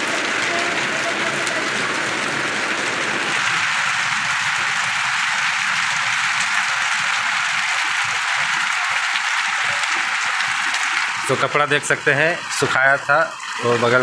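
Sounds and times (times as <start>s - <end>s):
torrential rain pouring: 0.0s - 14.0s.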